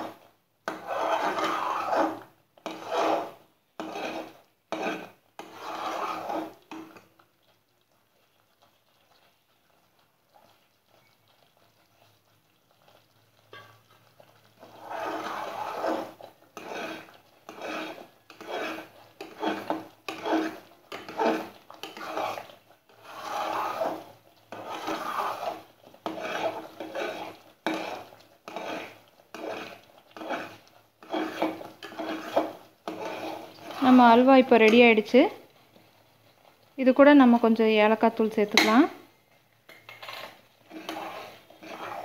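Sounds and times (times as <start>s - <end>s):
ladle scraping metal pot: 0.0s - 7.2s, 13.4s - 42.0s.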